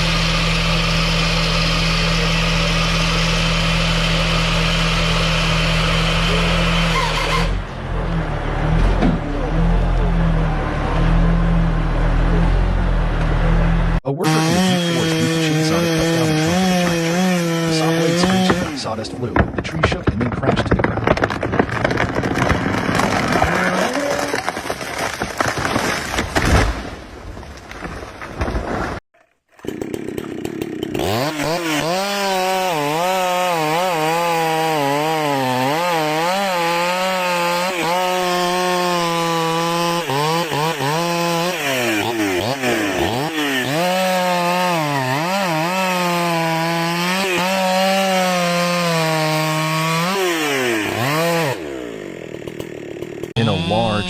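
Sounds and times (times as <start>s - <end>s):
chainsaw cutting wood: 0.0s - 7.6s, 14.2s - 26.9s, 27.8s - 54.0s.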